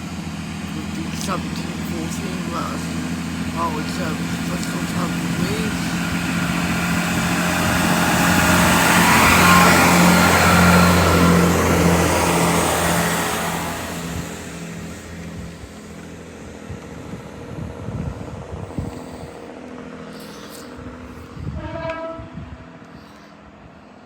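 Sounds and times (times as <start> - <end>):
diesel train accelerating: 0.0 - 24.0.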